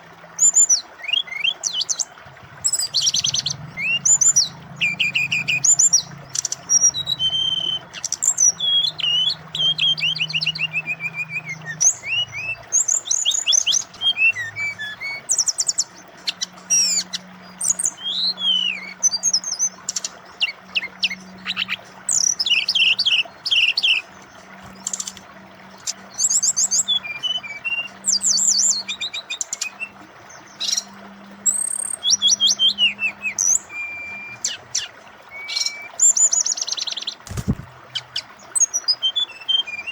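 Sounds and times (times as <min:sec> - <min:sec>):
running water: 0:00.0 - 0:39.9
bird singing whistles and trills: 0:00.4 - 0:39.9.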